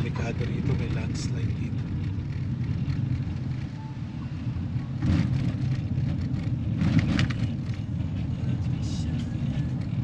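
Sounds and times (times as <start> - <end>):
car engine rumble: 0.0 - 10.0
road noise: 0.0 - 10.0.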